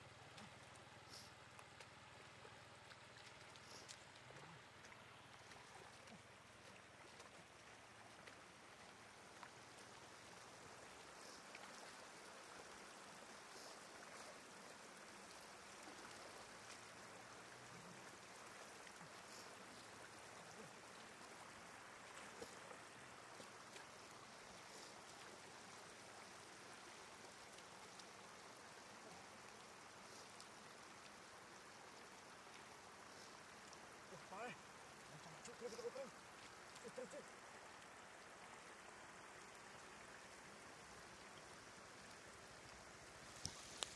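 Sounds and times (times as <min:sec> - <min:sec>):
trickle of shallow water: 0:00.0 - 0:43.9.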